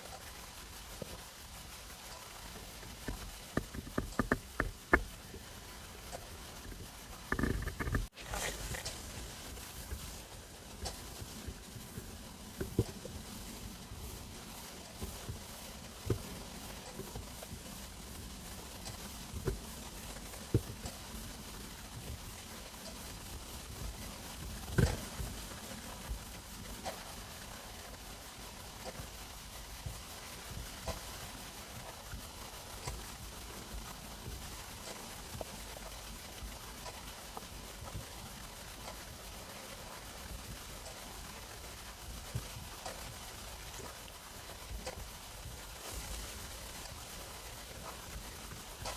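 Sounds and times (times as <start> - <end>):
steady low hiss: 0.0 - 48.9
stomach rumbling and gurgling: 0.1 - 48.9.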